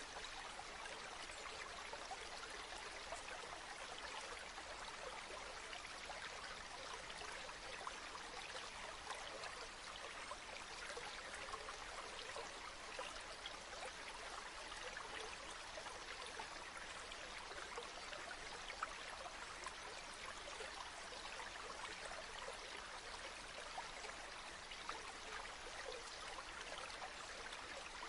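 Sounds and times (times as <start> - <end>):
river water babbling: 0.0 - 28.0.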